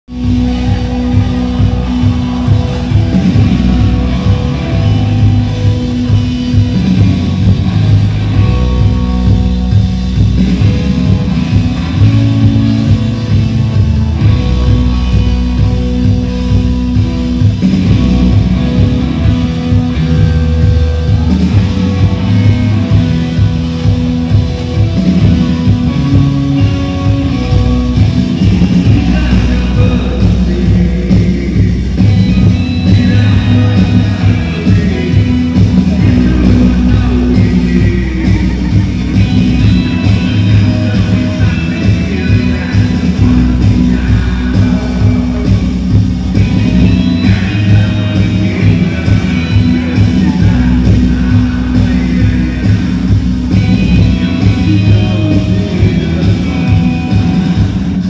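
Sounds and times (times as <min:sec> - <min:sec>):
electric guitars: 0:00.0 - 0:58.0
drum kit beat: 0:00.1 - 0:58.0.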